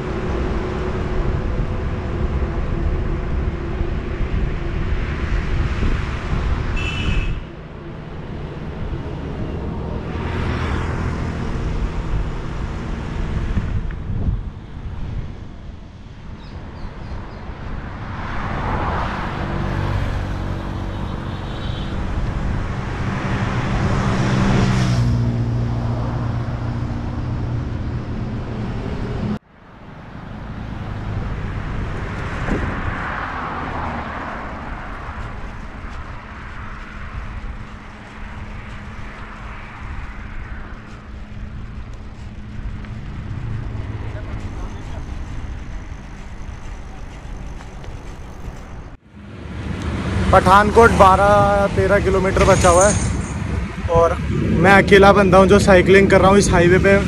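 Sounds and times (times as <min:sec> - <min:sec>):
large vehicle engine drone: 0:00.0 - 0:57.0
vehicles passing on highway: 0:00.0 - 0:57.0.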